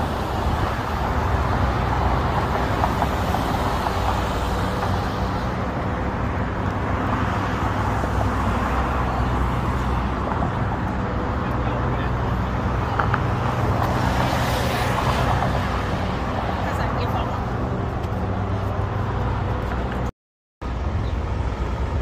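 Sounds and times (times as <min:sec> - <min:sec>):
cars passing on road: 0:00.0 - 0:22.0.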